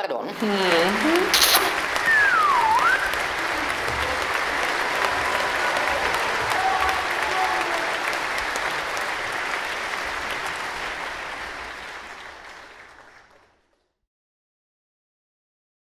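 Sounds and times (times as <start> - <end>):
audience applauding: 0.3 - 13.9.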